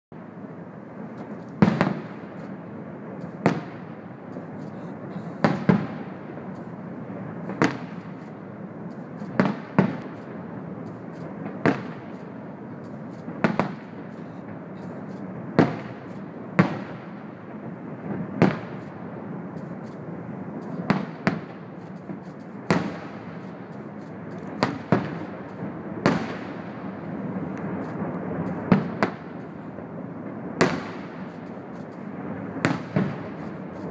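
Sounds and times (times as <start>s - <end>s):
fireworks bursting in bangs: 0.2s - 33.9s
steady rushing noise: 0.2s - 33.9s.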